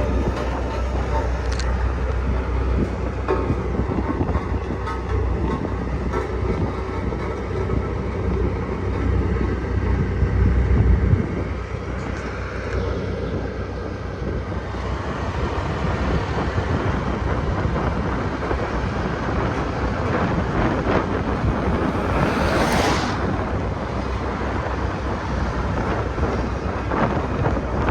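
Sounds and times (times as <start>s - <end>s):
diesel engine rumbling: 0.0s - 27.9s.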